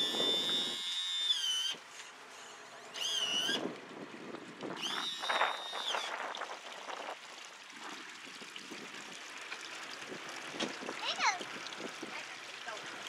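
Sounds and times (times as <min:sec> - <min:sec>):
water lapping and trickling: 0:00.0 - 0:13.0.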